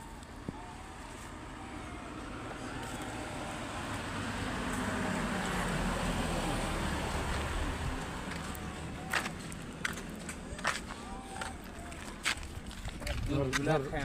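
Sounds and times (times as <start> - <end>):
vehicle passing: 1.2 - 12.6.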